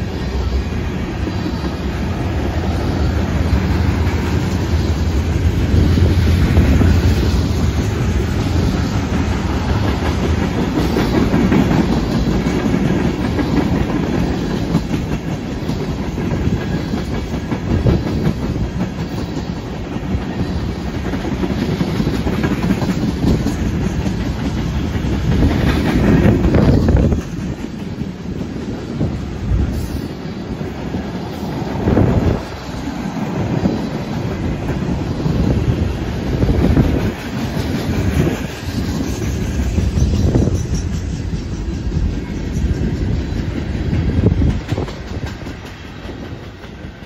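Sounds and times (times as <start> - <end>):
steel wheels rumbling on rail: 0.0 - 47.0
wheels clicking over rail joints: 0.0 - 47.0.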